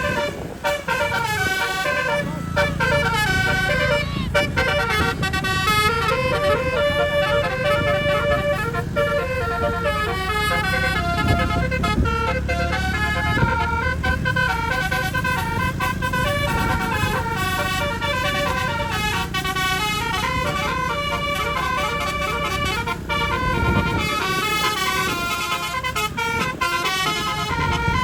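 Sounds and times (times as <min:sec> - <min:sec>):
bus horn trumpets playing melody: 0:00.0 - 0:28.0
engine rumbling: 0:00.0 - 0:28.0.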